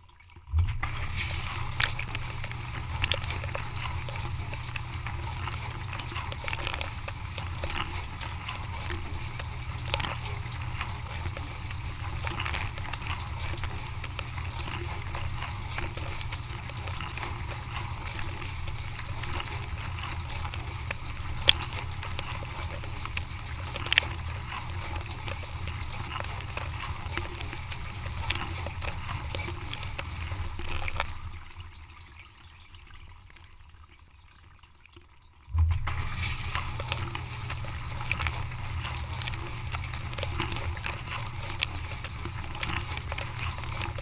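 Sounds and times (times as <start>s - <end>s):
dishwasher pump hum: 0.0s - 33.8s, 35.4s - 44.0s
water spraying inside dishwasher: 0.7s - 33.7s, 35.7s - 44.0s.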